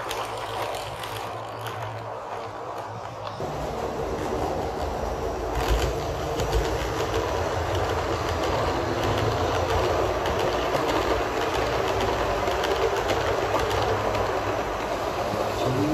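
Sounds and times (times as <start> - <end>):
model train running: 0.0 - 15.9
wheels clicking over rail joints: 0.0 - 15.9.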